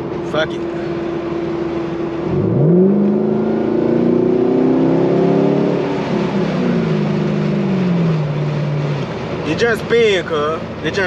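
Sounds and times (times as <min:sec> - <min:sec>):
car engine revving at full throttle: 0:00.1 - 0:10.0.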